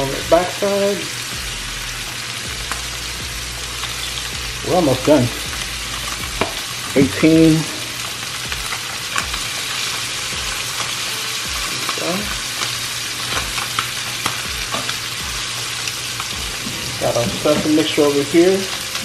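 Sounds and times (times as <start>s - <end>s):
fish sizzling in butter: 0.0s - 19.0s.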